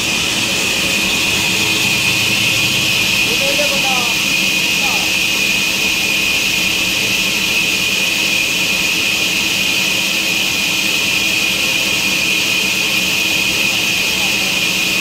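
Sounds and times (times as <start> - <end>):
high-pitched machine hiss: 0.0 - 15.0
low machine hum: 0.0 - 15.0.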